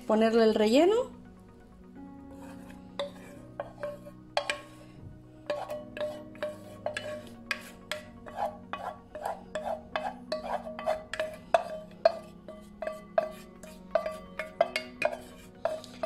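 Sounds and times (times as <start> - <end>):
spoon scraping metal pot: 2.2 - 16.0.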